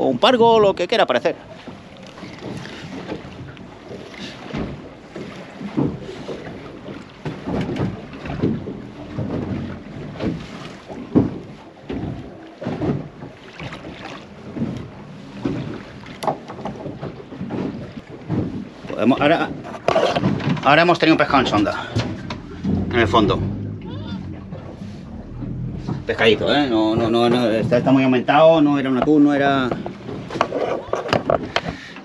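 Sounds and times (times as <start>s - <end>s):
wind buffeting microphone: 0.0s - 31.8s
small waves lapping against hull: 0.0s - 32.0s.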